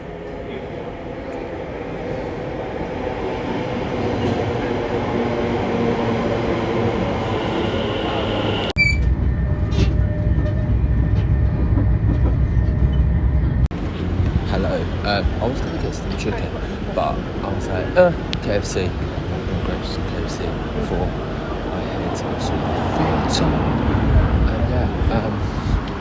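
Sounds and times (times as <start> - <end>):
deep train rumble: 0.0 - 26.0
train motors humming: 0.0 - 26.0.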